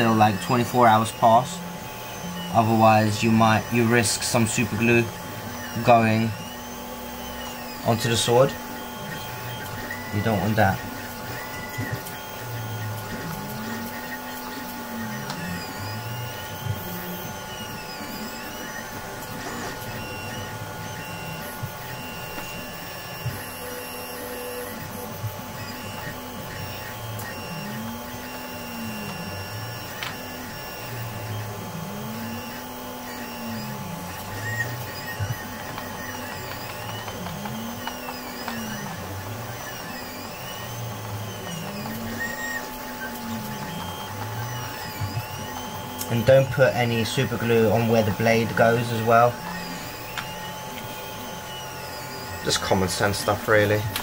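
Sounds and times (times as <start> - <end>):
steady hum: 0.0 - 54.0
stepper motors whining: 0.0 - 54.0.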